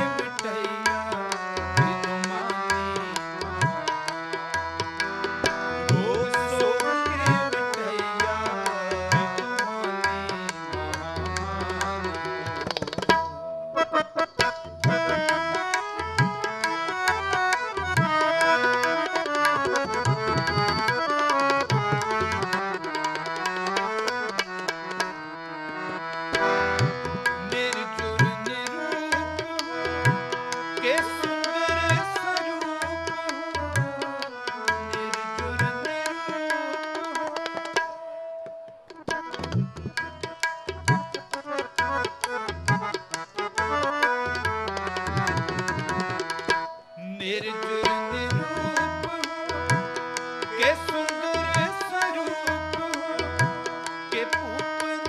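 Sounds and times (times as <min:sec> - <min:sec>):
harmonium melody: 0:00.0 - 0:55.0
tabla drumming: 0:00.0 - 0:55.0.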